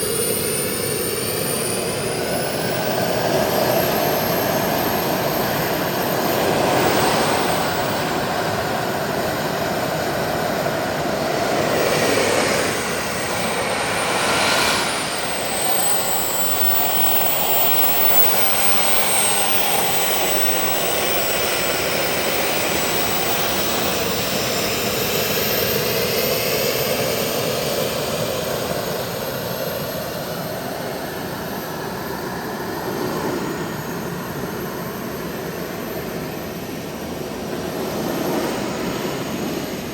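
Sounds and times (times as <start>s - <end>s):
high turbine whine: 0.0s - 39.9s
model jet turbine engines running: 0.0s - 39.9s.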